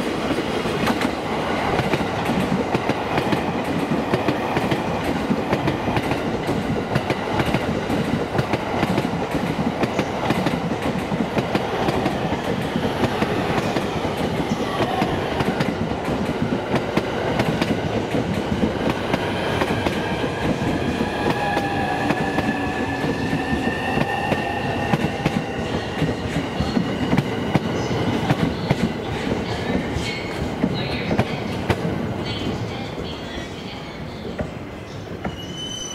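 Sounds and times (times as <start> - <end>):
electric train whine: 0.0 - 30.0.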